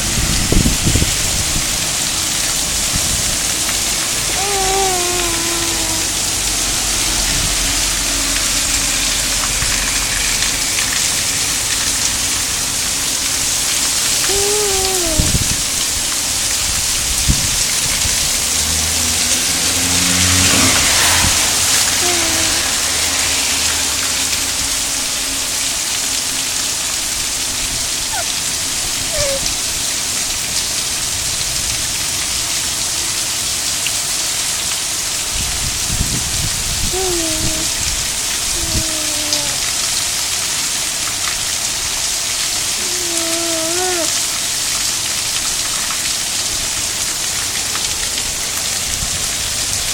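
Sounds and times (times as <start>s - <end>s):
heavy rain hissing: 0.0s - 49.9s.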